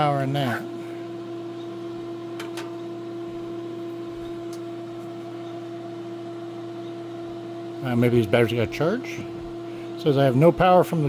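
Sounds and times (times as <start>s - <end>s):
inverter humming with steady tone: 0.0s - 11.0s.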